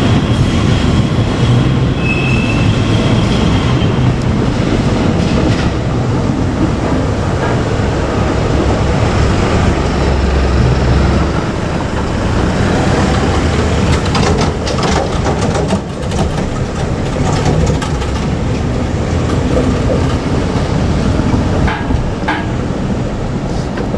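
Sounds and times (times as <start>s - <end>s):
train wheels rumbling on rail: 0.0s - 23.9s
rail-joint clicks: 0.1s - 23.9s.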